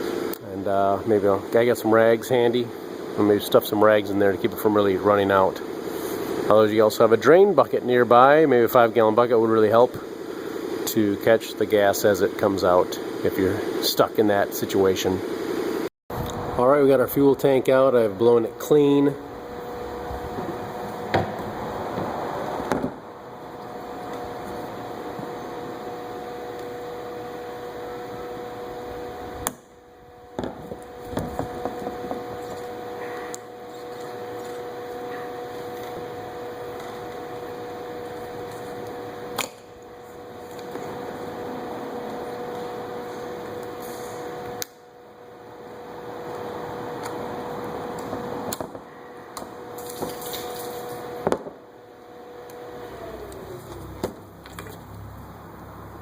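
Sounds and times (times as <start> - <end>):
machine hum: 0.0 - 56.0.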